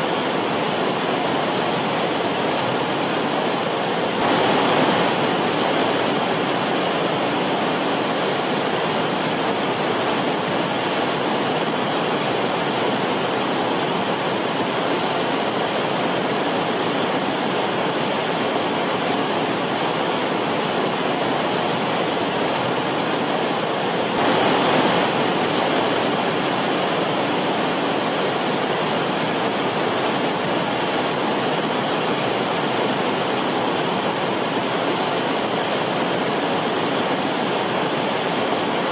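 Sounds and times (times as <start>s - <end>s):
stream rushing water: 0.0s - 38.9s.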